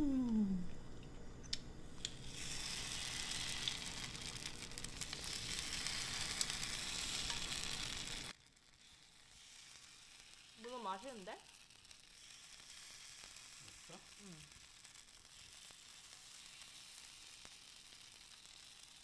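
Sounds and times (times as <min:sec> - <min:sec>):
food sizzling and crackling: 0:01.8 - 0:19.0.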